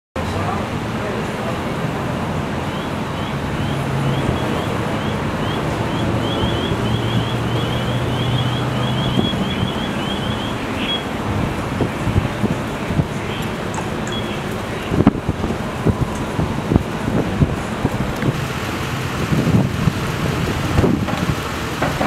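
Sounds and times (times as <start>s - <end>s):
engine drone with low hum: 0.2s - 22.0s.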